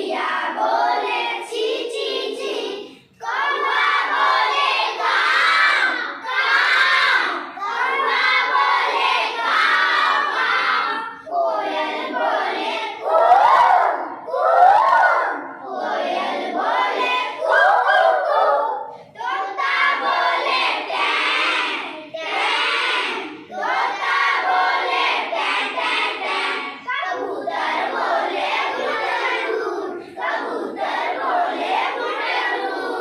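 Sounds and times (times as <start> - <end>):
children calling out in chorus: 0.0 - 33.0.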